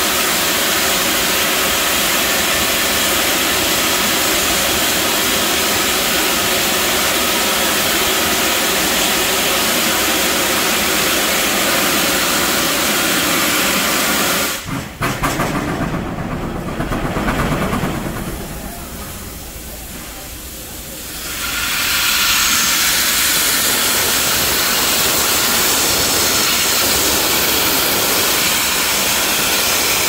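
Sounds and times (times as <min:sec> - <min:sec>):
steam hissing loudly: 0:00.0 - 0:15.0, 0:16.3 - 0:30.0
steam locomotive exhaust beats: 0:00.0 - 0:30.0.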